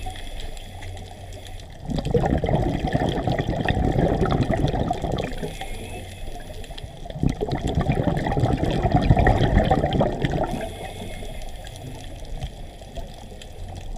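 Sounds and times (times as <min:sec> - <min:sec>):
underwater bubbles gurgling: 0:00.0 - 0:13.9.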